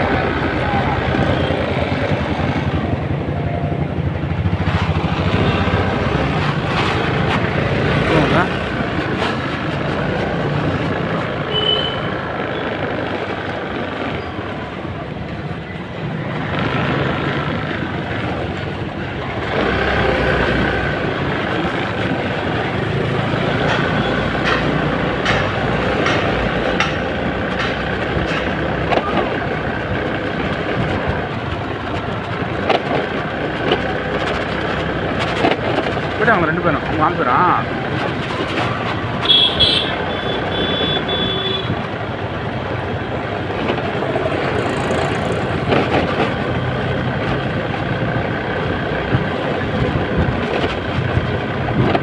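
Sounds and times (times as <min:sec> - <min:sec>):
scooter engine and road noise: 0:00.0 - 0:52.0
vehicles passing: 0:00.0 - 0:52.0.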